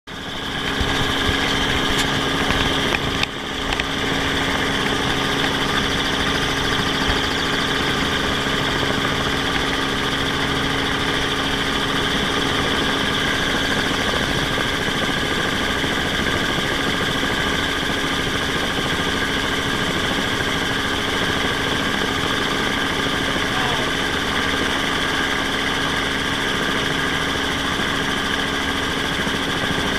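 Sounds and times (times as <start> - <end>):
helicopter engine and rotors: 0.1 - 29.9.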